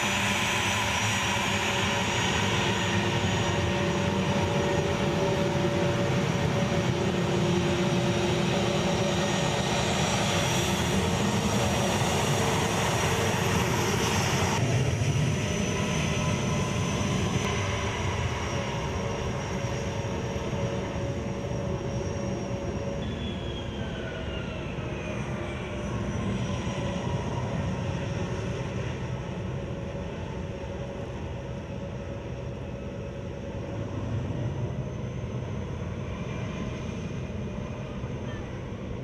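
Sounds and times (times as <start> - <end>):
jet engine whine: 0.0 - 39.0.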